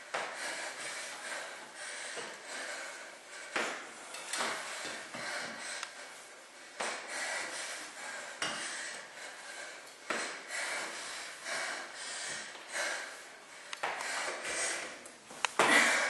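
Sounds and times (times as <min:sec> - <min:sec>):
woman breathing hard: 0:00.0 - 0:16.0.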